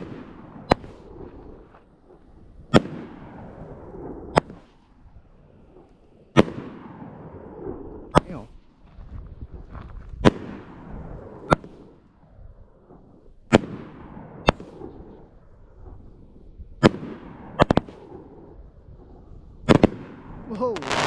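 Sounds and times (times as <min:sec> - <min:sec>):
fireworks bangs: 0:00.0 - 0:12.3, 0:13.0 - 0:21.0.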